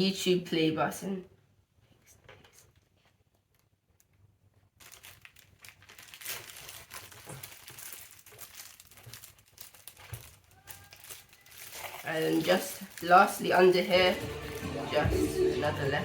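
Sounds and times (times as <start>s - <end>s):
packaging crinkling and rustling: 2.0s - 15.8s.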